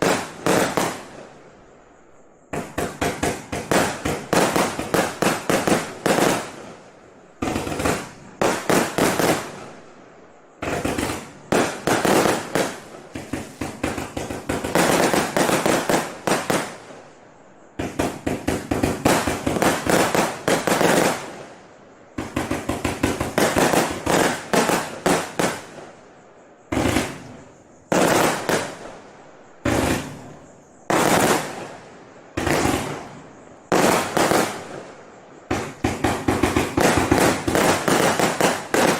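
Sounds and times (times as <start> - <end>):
firework bangs and pops: 0.0 - 1.4, 2.5 - 6.8, 7.4 - 9.8, 10.6 - 17.1, 17.8 - 21.5, 22.1 - 26.0, 26.7 - 29.0, 29.6 - 38.9.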